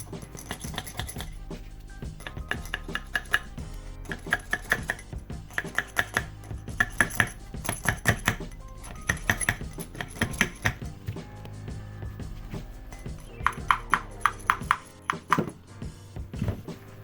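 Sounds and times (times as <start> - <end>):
metal parts clinking and tapping: 0.0 - 11.2, 12.9 - 15.7.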